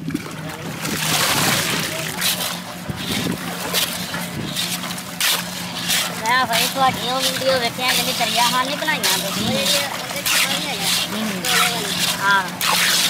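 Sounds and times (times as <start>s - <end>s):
water sloshing in metal basin: 0.0s - 13.0s.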